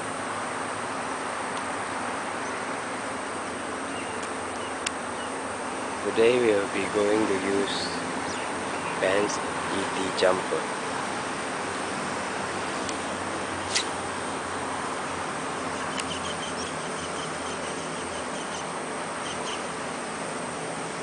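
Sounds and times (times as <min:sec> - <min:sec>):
insects chirping: 0:00.0 - 0:21.0
steady outdoor hiss: 0:00.0 - 0:21.0.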